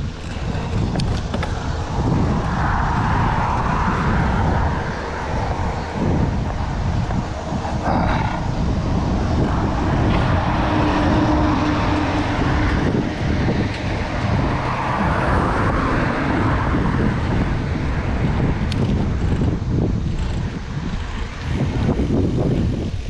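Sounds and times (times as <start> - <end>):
bicycle road noise: 0.0 - 23.0
motor traffic passing: 0.0 - 23.0
wind rush on microphone: 0.0 - 23.0.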